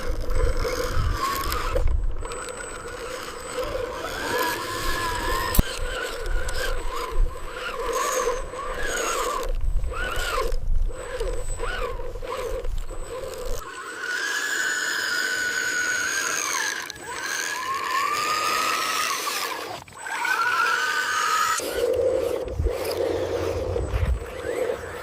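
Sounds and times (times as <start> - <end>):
high-pitched motor whine: 0.0 - 25.0.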